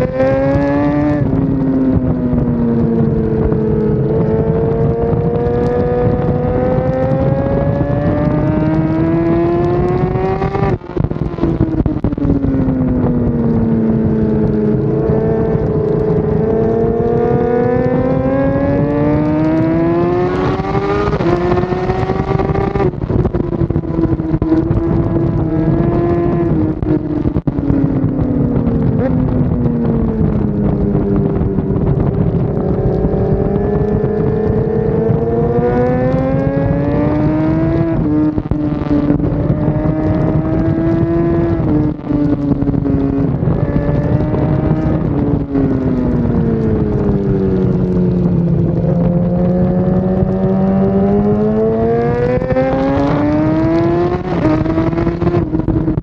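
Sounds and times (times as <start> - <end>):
motorcycle engine running hard: 0.0 - 56.0.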